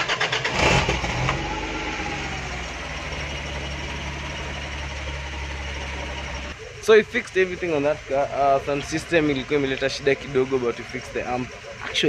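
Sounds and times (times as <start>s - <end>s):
truck engine starting and idling: 0.0s - 12.0s.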